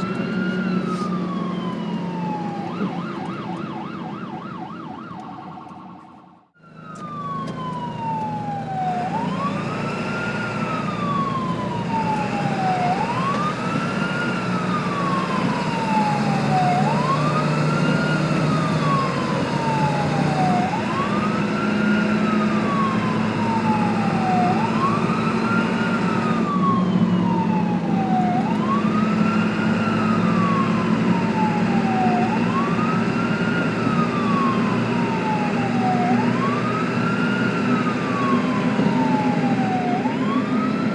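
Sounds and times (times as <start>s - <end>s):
ambulance siren wailing: 0.0s - 40.9s.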